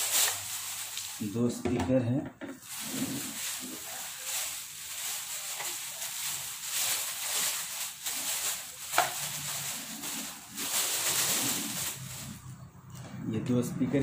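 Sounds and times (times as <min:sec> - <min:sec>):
plastic bag rustling: 0:00.0 - 0:01.6, 0:02.5 - 0:12.7.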